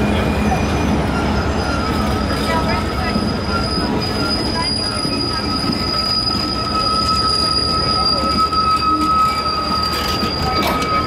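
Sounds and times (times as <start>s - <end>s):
metallic squeal of train cars: 0.0s - 11.0s
train wheels rumbling on rails: 0.0s - 11.0s.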